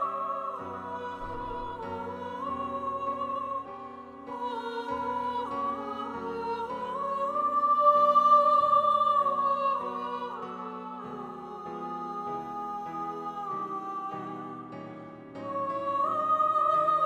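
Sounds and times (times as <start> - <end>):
girls choir singing: 0.0 - 17.0.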